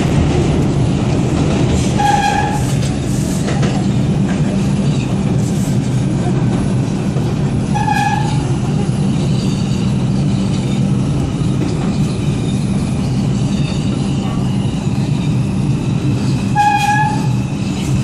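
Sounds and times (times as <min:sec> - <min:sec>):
subway car wheels rumbling: 0:00.0 - 0:18.0.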